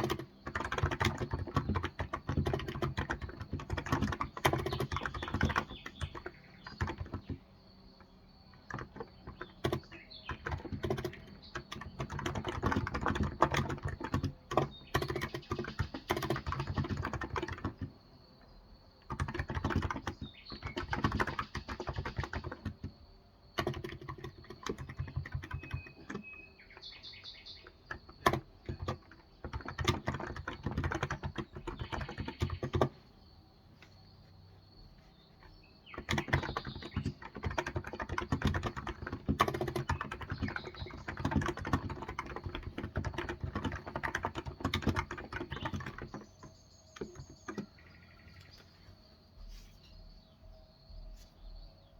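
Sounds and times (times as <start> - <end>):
keyboard typing: 0.0 - 18.0, 19.0 - 48.6.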